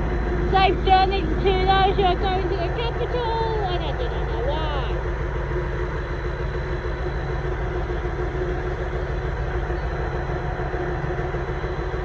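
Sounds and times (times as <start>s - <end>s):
train engine humming: 0.0s - 12.0s.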